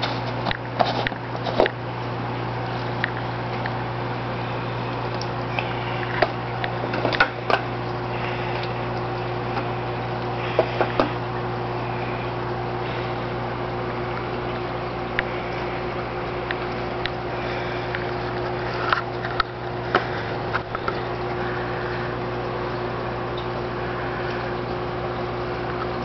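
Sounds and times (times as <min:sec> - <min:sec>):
aquarium pump hum: 0:00.0 - 0:26.0
running water hiss: 0:04.2 - 0:25.8.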